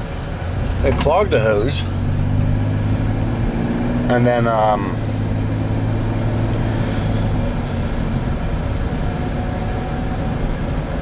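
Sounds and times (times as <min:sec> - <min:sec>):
road and engine noise in cabin: 0:00.0 - 0:11.0.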